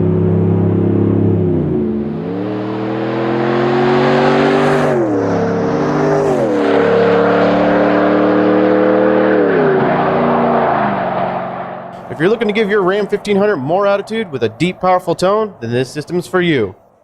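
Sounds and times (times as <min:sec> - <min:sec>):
car engine accelerating: 0:00.0 - 0:16.1.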